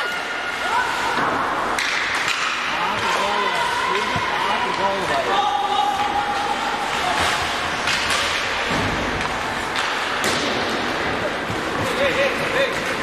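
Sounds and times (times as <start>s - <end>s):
skates scraping ice: 0.0s - 13.0s.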